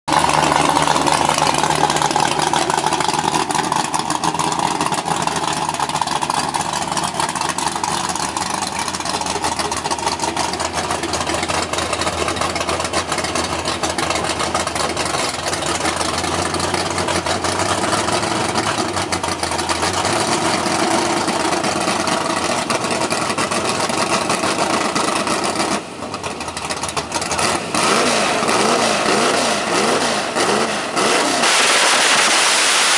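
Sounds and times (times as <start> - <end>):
car engines idling and revving: 0.1 - 32.9.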